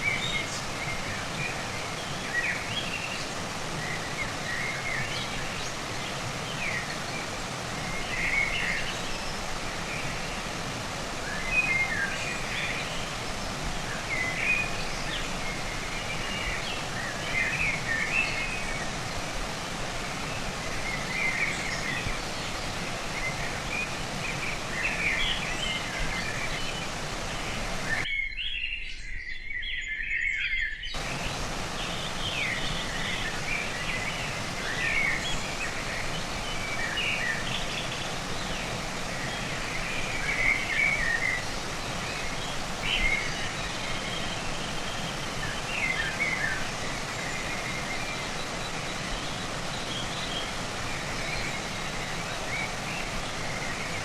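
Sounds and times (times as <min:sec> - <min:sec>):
stream flowing: 0:00.0 - 0:28.1, 0:31.0 - 0:54.0.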